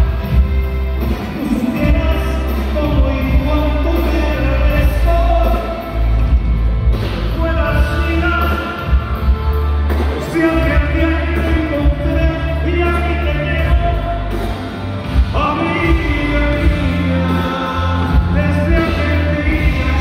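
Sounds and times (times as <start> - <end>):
live band with singer: 0.0 - 20.0
strong steady bass: 0.0 - 20.0.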